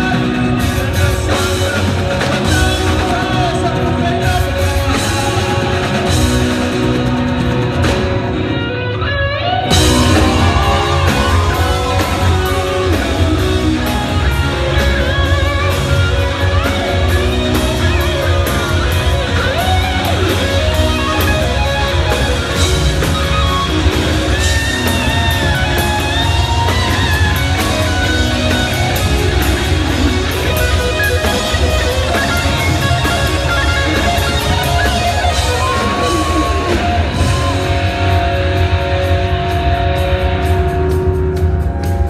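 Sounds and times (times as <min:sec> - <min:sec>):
lead guitar sliding and bending: 0:00.0 - 0:42.0
live rock band playing: 0:00.0 - 0:42.0.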